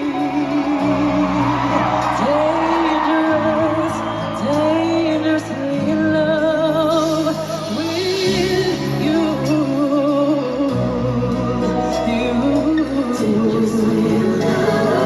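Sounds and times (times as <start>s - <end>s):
keyboard and bass chords: 0.0s - 15.0s
woman singing ballad: 0.0s - 15.0s.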